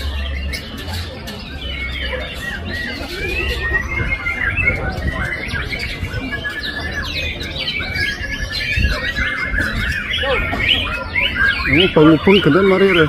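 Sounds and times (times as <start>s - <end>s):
bird singing whistles and chatter: 0.0s - 13.0s.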